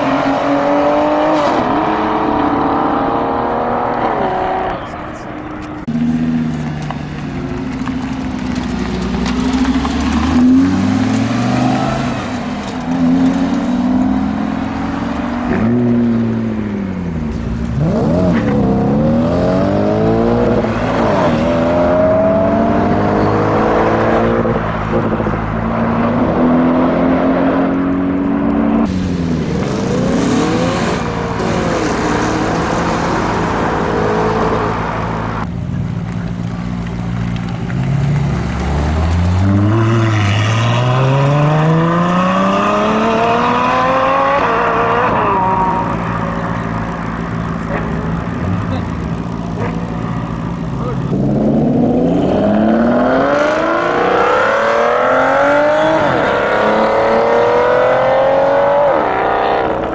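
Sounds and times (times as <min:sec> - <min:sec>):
sports cars accelerating hard: 0:00.0 - 0:35.5, 0:37.4 - 0:59.9.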